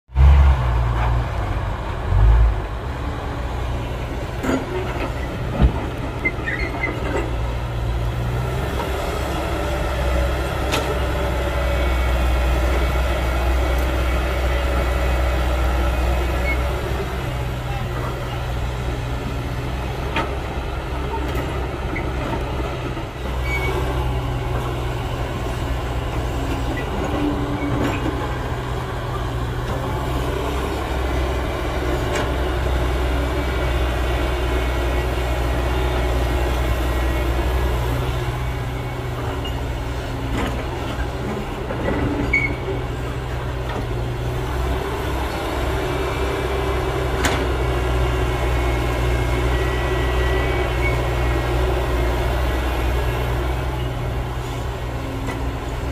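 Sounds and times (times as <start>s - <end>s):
excavator diesel engine droning: 0.1s - 55.9s.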